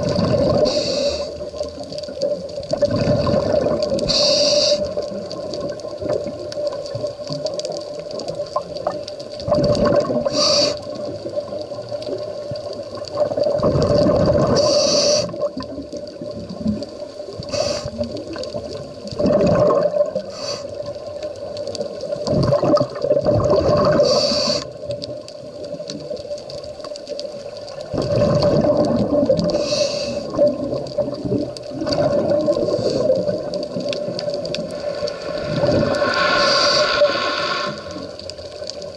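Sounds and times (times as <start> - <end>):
exhaled bubbles gurgling underwater: 0.0 - 38.9.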